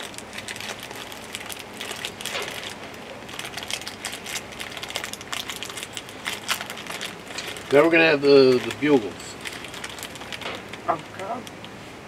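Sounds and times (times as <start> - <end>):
snack packaging crinkling: 0.0 - 11.8.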